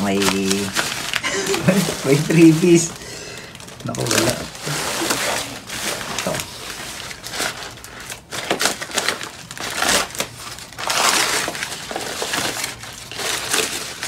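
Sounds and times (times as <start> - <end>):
paper wrapping crinkled and torn: 0.0 - 14.0.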